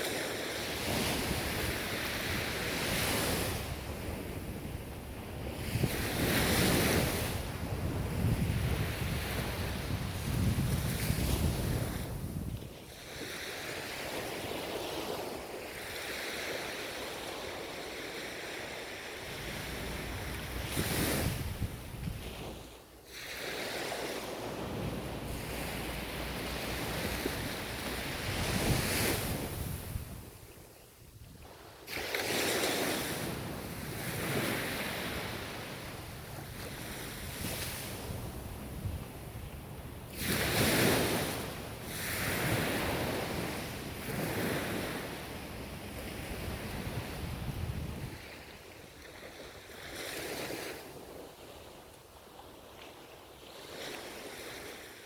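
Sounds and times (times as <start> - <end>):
ocean surf washing ashore: 0.0 - 52.2.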